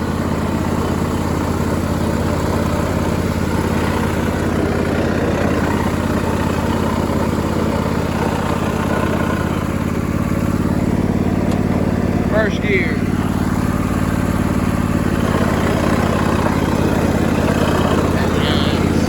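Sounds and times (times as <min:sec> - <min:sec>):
lawn tractor engine running: 0:00.0 - 0:19.0.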